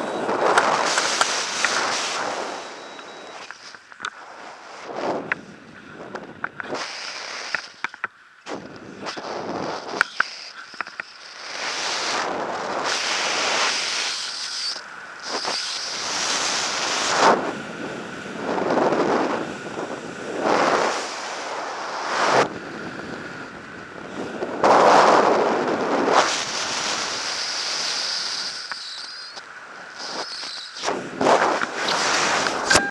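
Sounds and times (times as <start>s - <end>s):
wind rushing over microphone: 0.0s - 3.4s, 4.2s - 7.0s, 8.5s - 10.1s, 11.6s - 14.1s, 15.0s - 28.7s, 29.6s - 32.9s.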